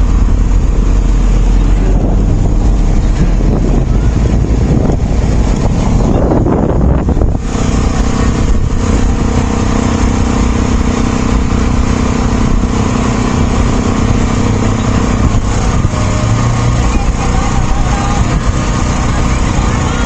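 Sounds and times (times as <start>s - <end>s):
vehicle engine humming: 0.0s - 20.0s
wind noise rush: 0.0s - 20.0s.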